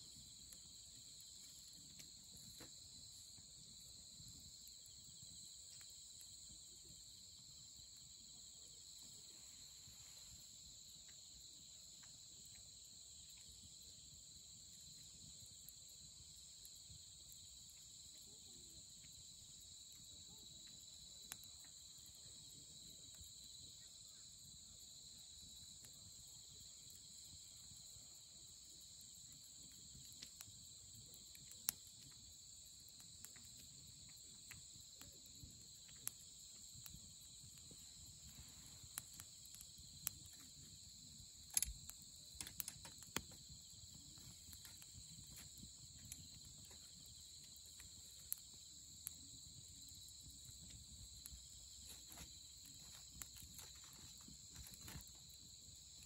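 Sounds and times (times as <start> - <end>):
firewood crackling: 0.0 - 23.9, 25.2 - 56.0
night insects chirping: 0.0 - 56.0.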